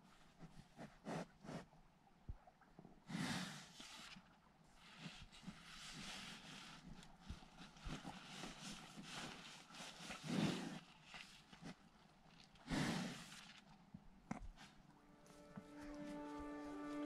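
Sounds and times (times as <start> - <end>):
cow breathing and sniffing: 0.0 - 1.8, 3.0 - 16.0.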